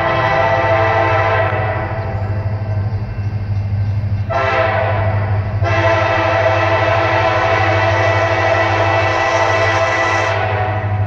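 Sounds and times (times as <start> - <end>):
locomotive air horn blasts: 0.0 - 2.2, 4.3 - 11.0.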